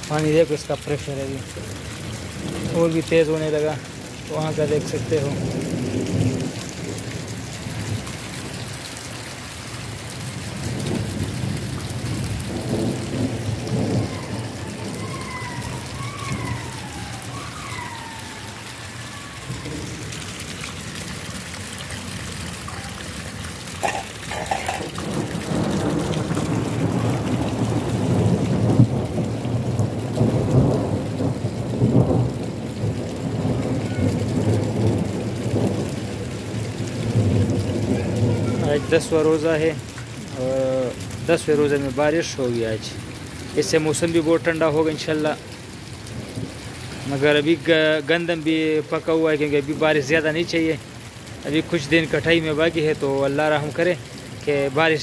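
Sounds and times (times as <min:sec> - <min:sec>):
heavy rain splashing: 0:00.0 - 0:55.0.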